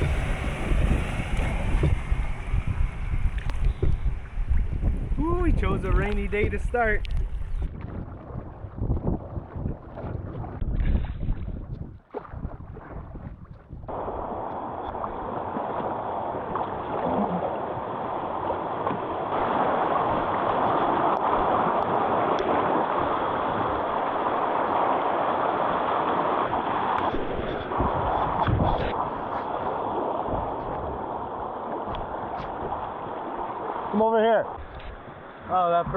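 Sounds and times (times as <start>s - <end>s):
water rushing: 0.0s - 35.9s
wind buffeting microphone: 0.0s - 35.9s.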